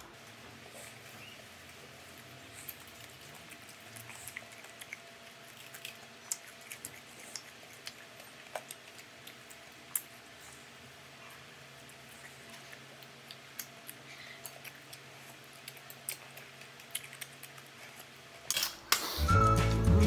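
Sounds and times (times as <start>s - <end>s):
person chewing: 0.6s - 10.4s, 11.8s - 18.2s.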